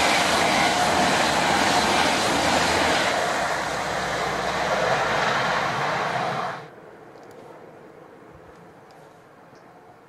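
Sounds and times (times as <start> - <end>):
distant train rumble: 0.0 - 10.0.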